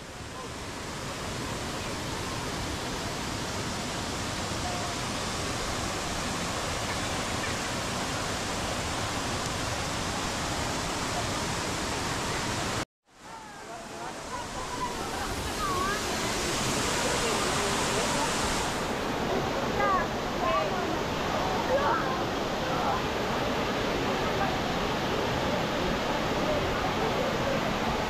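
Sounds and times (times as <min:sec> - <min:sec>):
waterfall cascading into pools: 0:00.0 - 0:28.0.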